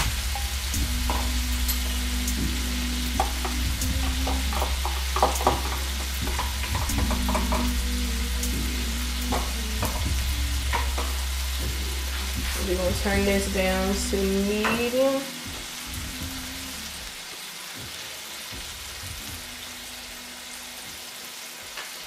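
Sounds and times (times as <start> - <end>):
low hum: 0.0 - 17.2, 18.5 - 20.9
eggs sizzling in skillet: 0.0 - 22.0
shrimp frying in pan: 0.0 - 22.0.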